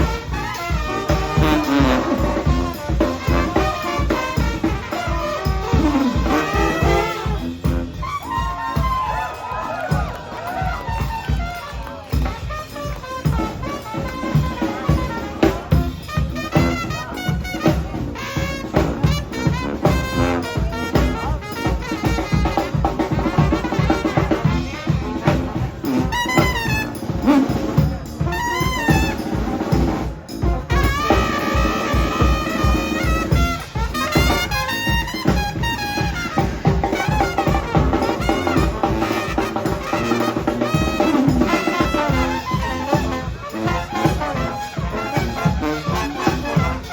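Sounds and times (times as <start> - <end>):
brass horn melody: 0.0 - 46.9
driving drum beat: 0.0 - 46.9.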